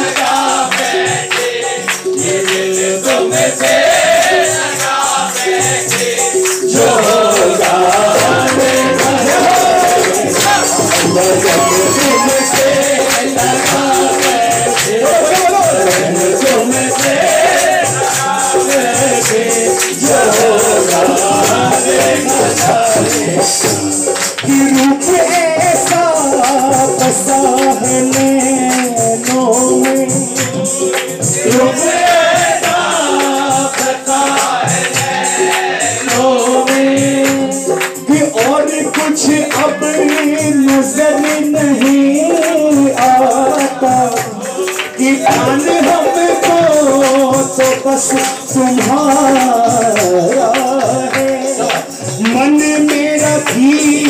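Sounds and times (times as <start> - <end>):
hand-clapping: 0.0 - 54.0
jingling percussion: 0.0 - 54.0
man singing through microphone: 0.0 - 54.0
people singing along: 0.0 - 54.0.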